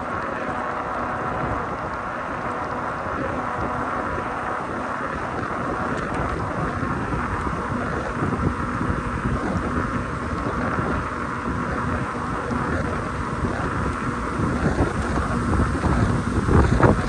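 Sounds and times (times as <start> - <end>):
low rumble from riding: 0.0 - 17.0
wind rushing over microphone: 0.0 - 17.0.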